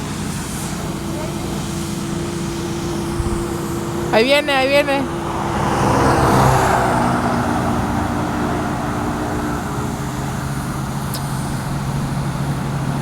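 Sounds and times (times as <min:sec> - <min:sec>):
low engine hum: 0:00.0 - 0:13.0
truck passing on highway: 0:00.0 - 0:13.0.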